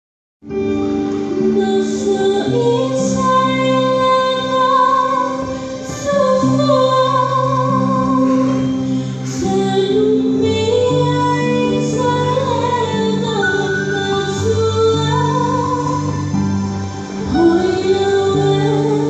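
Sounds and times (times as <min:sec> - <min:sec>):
woman singing slow melody: 0:01.2 - 0:19.0.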